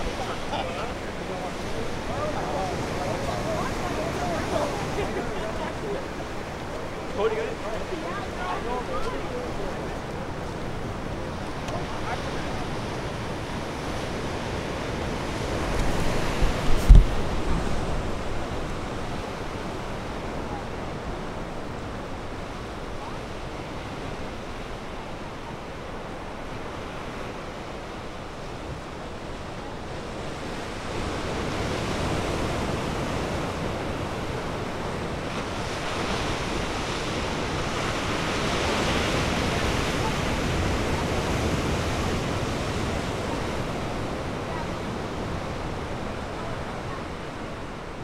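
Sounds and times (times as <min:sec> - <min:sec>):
ocean waves washing: 0:00.0 - 0:48.0.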